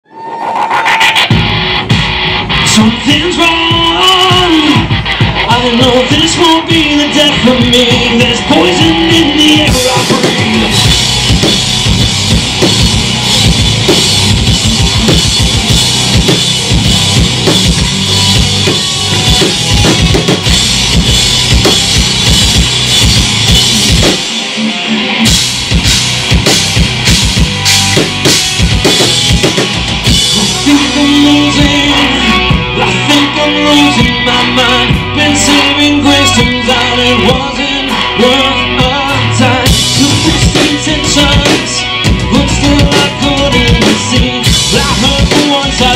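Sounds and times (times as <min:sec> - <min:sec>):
rock band playing: 0:00.1 - 0:45.9.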